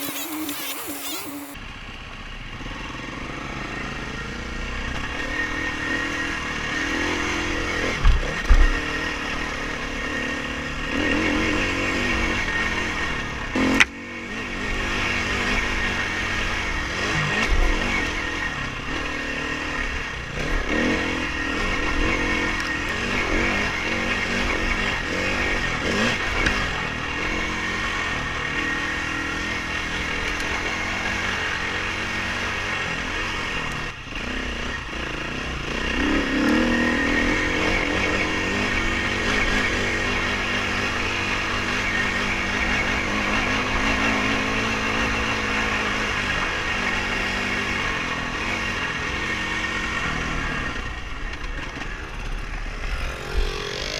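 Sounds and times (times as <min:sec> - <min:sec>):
dirt bike engine revving: 0:00.0 - 0:01.6, 0:05.2 - 0:50.8, 0:51.6 - 0:53.9.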